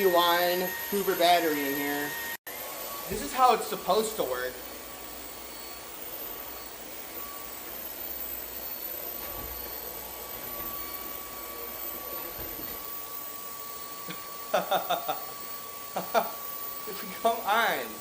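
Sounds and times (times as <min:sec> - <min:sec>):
stick vacuum cleaner running: 0:00.0 - 0:18.0.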